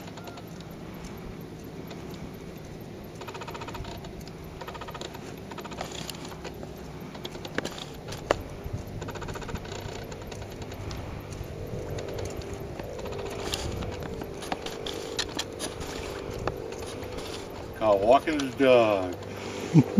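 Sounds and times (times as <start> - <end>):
camera zoom motor whirring: 0.0 - 19.8
low wind rumble: 0.0 - 19.9
sharp clicks: 0.0 - 19.9.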